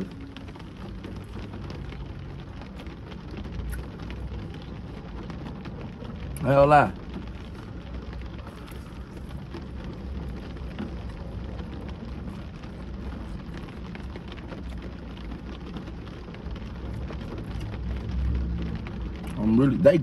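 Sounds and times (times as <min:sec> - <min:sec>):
rain on a car roof: 0:00.0 - 0:20.0.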